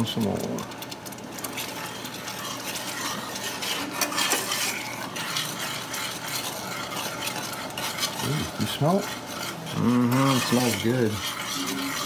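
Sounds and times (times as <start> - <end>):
low sizzle from pan: 0.0 - 12.0
utensil scraping and tapping pan: 0.0 - 12.0.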